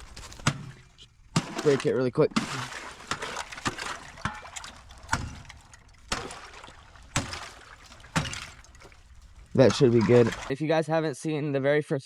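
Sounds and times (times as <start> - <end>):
ice cracking under strikes: 0.0 - 10.5
water sloshing: 0.0 - 10.5.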